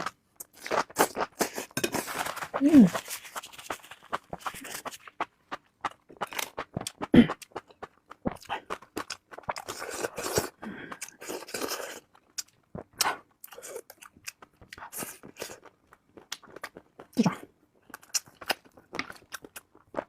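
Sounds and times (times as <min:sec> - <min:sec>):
chewing and wet mouth sounds: 0:00.0 - 0:20.0.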